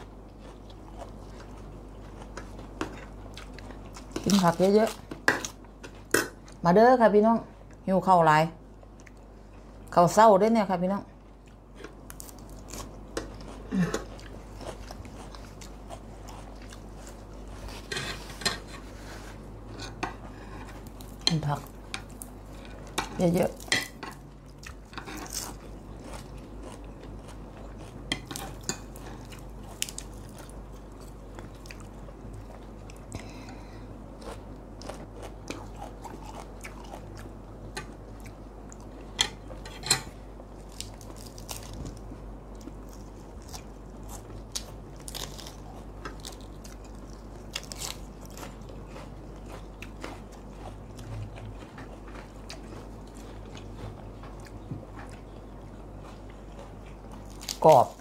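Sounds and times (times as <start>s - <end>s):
chewing crunchy food: 0.0s - 6.6s, 8.7s - 10.0s, 11.1s - 58.0s.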